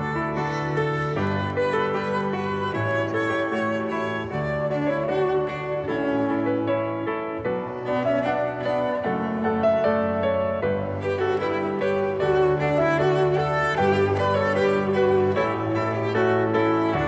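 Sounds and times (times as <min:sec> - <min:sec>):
slow strings and piano music: 0:00.0 - 0:17.0.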